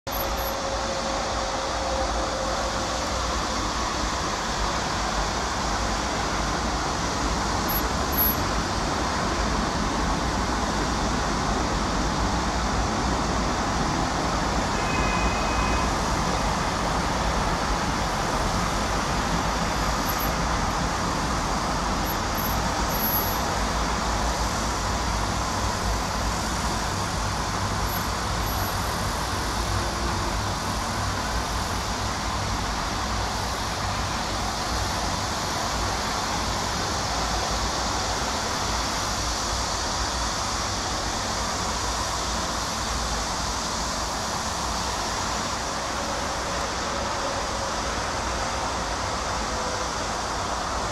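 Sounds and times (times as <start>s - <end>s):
expressway traffic noise: 0.1s - 50.9s.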